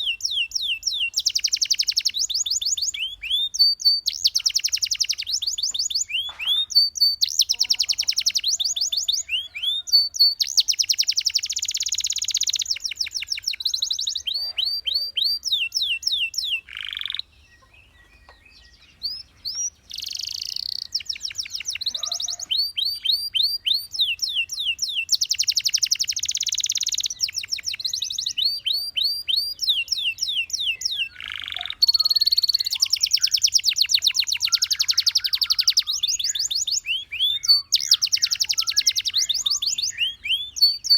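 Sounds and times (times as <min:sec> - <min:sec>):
canary trilling: 0:00.0 - 0:17.3, 0:19.0 - 0:40.9.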